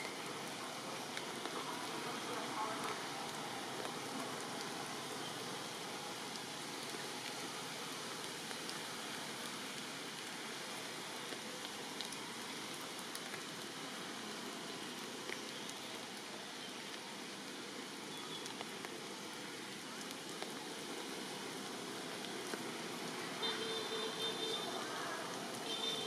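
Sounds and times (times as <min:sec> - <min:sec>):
rain falling on foliage: 0:00.0 - 0:26.0.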